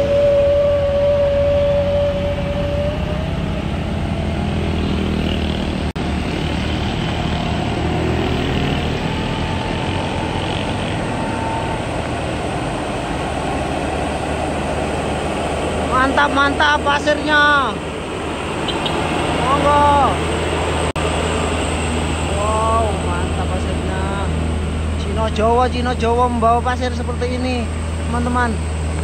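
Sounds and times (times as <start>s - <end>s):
engine rumble: 0.0s - 29.0s
vehicle whine: 0.0s - 29.0s.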